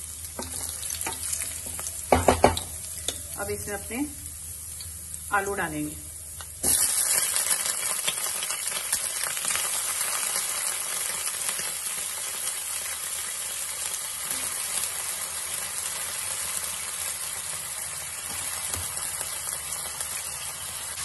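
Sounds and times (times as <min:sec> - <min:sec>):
potatoes sizzling in hot oil: 0:00.0 - 0:21.0.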